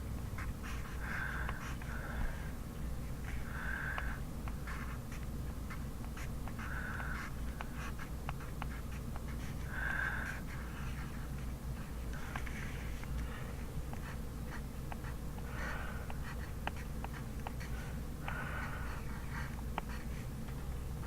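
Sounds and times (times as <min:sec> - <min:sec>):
low steady hum: 0:00.0 - 0:21.0
pencil scratching on paper: 0:00.4 - 0:01.9, 0:03.2 - 0:13.2, 0:13.9 - 0:20.3.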